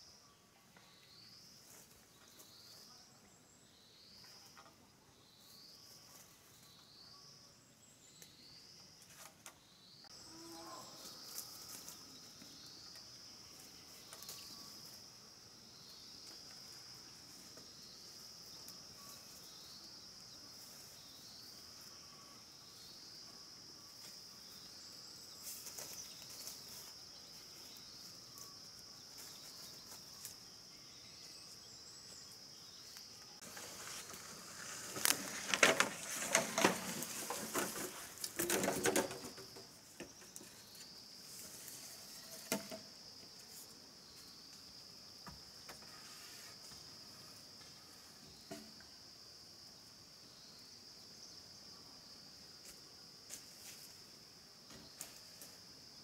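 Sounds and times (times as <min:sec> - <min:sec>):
insect chirring: 0:05.2 - 0:52.4.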